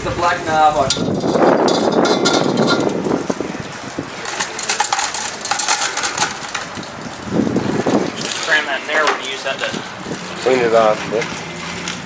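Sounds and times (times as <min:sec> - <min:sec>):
water rushing from hose: 0:00.0 - 0:12.0.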